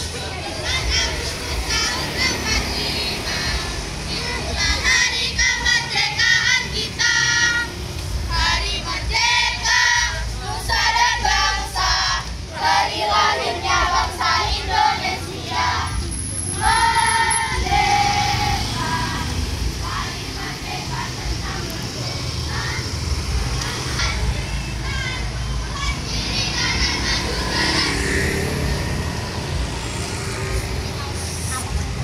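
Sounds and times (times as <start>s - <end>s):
girls singing in unison: 0.1s - 29.7s.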